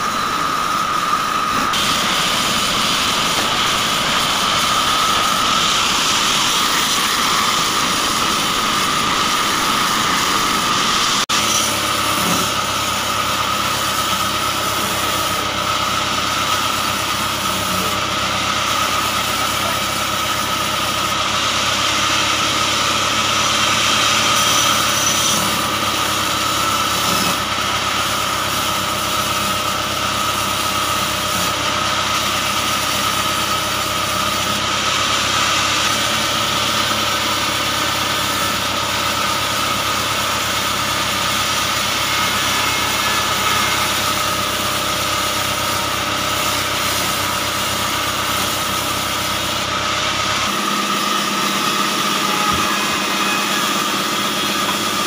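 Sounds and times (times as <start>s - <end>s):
band saw whining through log: 0.0s - 55.0s.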